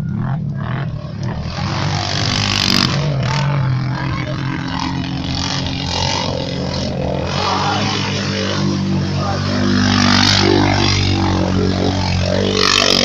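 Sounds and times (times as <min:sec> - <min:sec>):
noisy rush: 0:00.0 - 0:13.0
vehicle engine running: 0:00.0 - 0:13.0.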